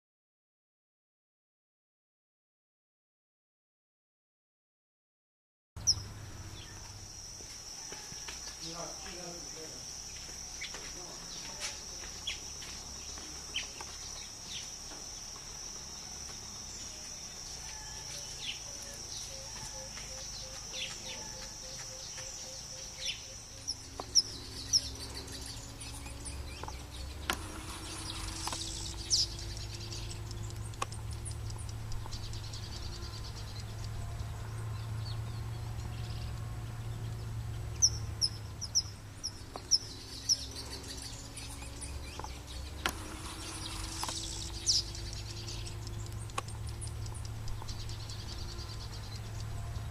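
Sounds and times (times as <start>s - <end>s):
high insect drone: 5.8s - 49.9s
low hum: 5.8s - 49.9s
small birds chirping: 5.8s - 49.9s.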